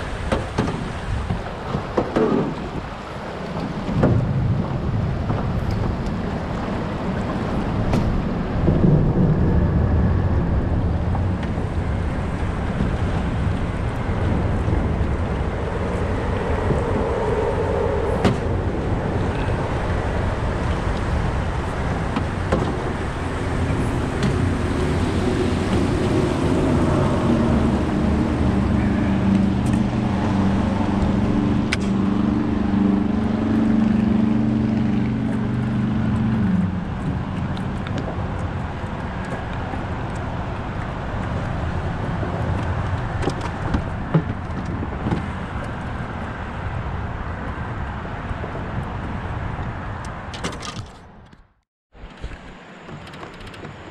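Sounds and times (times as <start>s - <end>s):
rushing river current: 0.0s - 49.6s
wind buffeting microphone: 0.0s - 53.9s.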